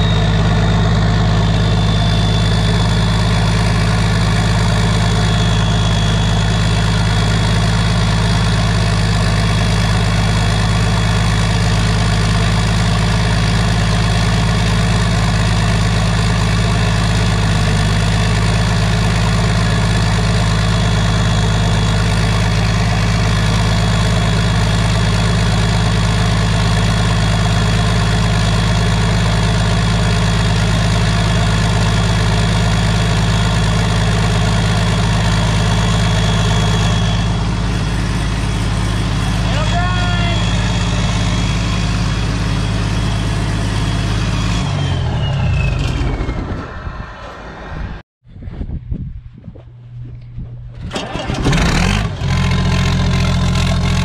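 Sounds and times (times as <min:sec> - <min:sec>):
diesel engine idling: 0:00.0 - 0:48.0, 0:50.6 - 0:54.0
turbo whine: 0:00.0 - 0:48.0.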